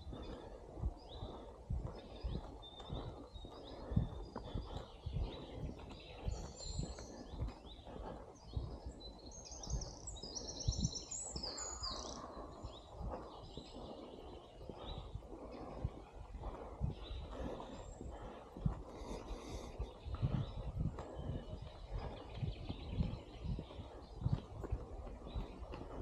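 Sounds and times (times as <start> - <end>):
songbirds singing: 0.0 - 26.0
steady outdoor rumble: 0.0 - 26.0.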